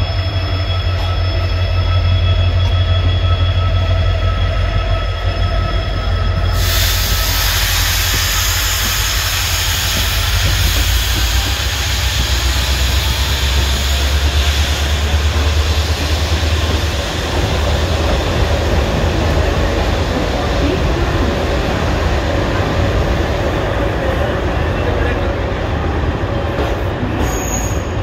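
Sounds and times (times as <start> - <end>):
train coaches rumbling on rails: 0.0 - 28.0.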